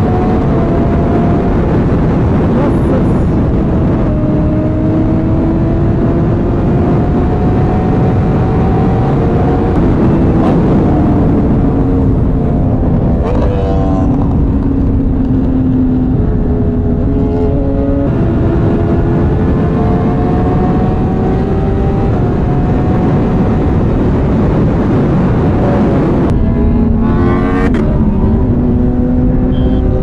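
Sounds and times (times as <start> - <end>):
loud rushing wind noise: 0.0 - 30.0
motorcycle engine revving: 0.0 - 30.0.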